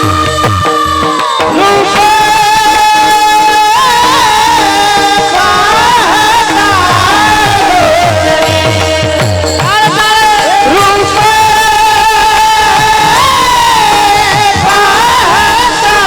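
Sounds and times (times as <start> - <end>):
person singing devotional song: 0.0 - 16.0.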